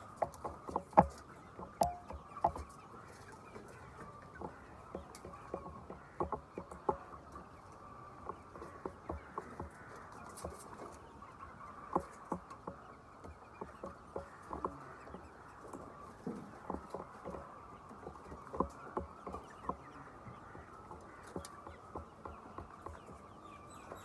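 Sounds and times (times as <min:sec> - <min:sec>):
chickens tapping and calling: 0:00.0 - 0:24.0.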